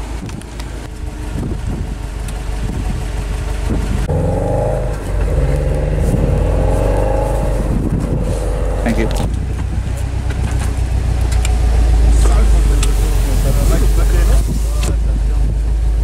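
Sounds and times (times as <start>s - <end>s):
engine drone inside car: 0.0s - 16.0s.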